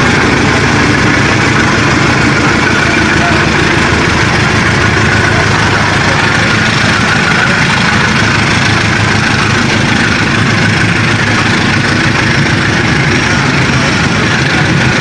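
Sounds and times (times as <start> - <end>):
diesel engine running: 0.0 - 15.0
train coaches rolling on rails: 0.0 - 15.0.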